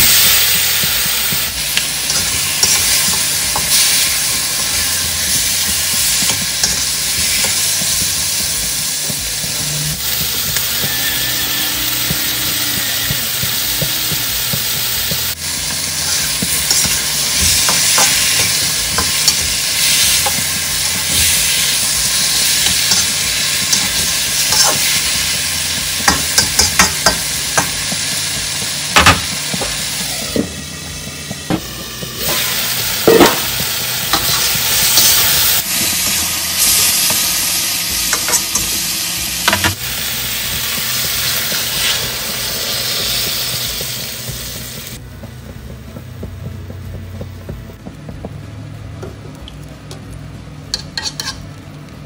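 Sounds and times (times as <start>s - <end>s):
chicken sizzling in oil: 0.0s - 45.0s.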